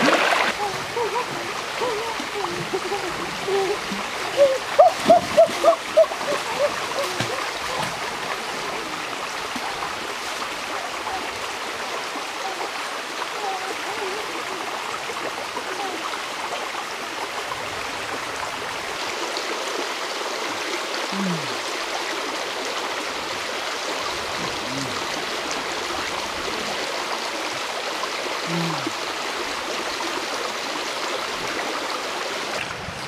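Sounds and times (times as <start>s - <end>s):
stream babbling over rocks: 0.0s - 33.0s.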